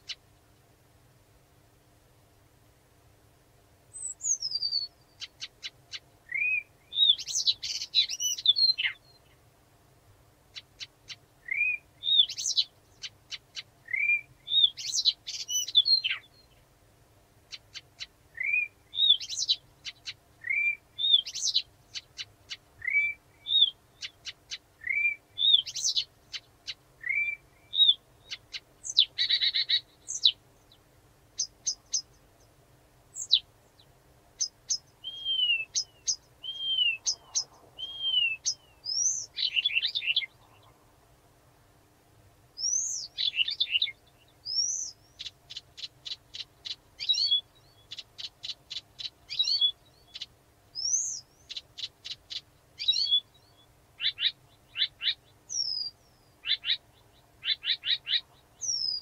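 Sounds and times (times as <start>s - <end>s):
warbler singing: 3.9s - 9.4s, 10.5s - 16.6s, 17.5s - 30.8s, 31.4s - 40.8s, 42.6s - 59.0s.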